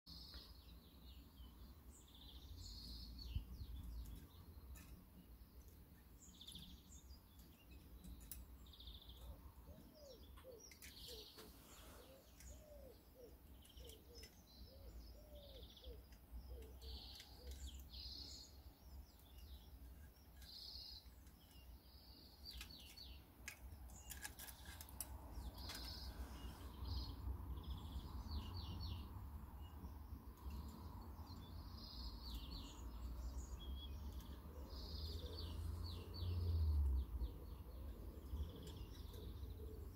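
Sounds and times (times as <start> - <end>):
small birds chirping: 0.1 - 39.9.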